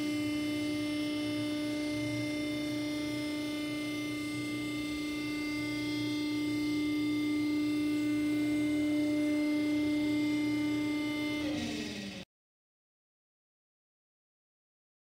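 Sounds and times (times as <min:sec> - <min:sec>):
hydraulic pump motor humming: 0:00.0 - 0:12.2.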